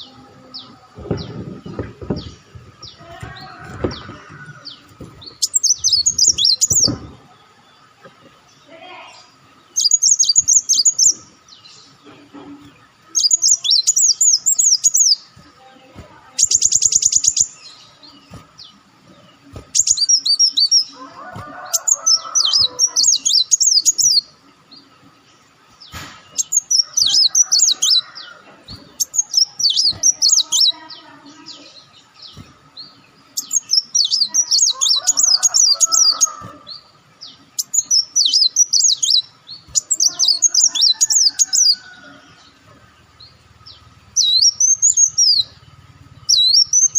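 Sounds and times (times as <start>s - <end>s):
bird twittering: 0.0s - 7.2s, 8.0s - 25.0s, 25.7s - 46.9s
buzzy bird trill: 0.0s - 7.6s, 8.4s - 46.9s.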